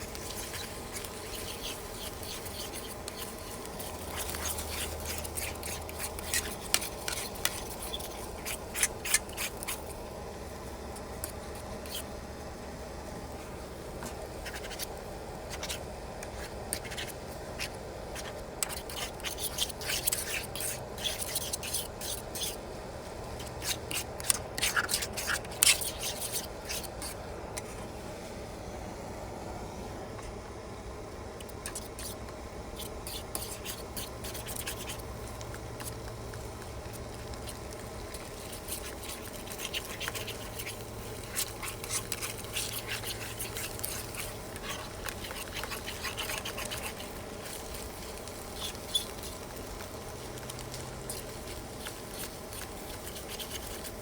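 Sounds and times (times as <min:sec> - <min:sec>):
utensil scraping a skillet: 0:00.0 - 0:10.1, 0:14.0 - 0:22.6, 0:23.4 - 0:27.8, 0:31.5 - 0:54.0.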